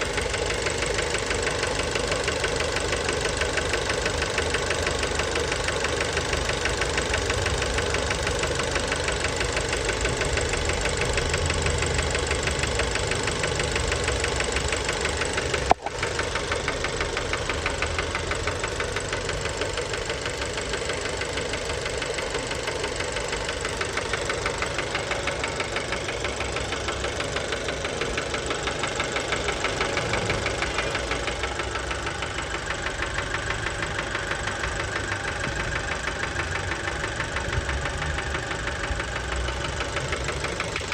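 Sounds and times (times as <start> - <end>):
engine knocking rattle: 0.0 - 40.9
petrol engine running: 0.0 - 40.9.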